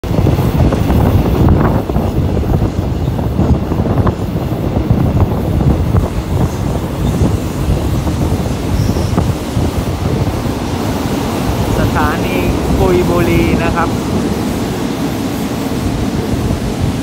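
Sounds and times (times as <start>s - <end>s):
train wheels rumbling on rail: 0.0s - 17.0s
wind on microphone: 0.0s - 17.0s.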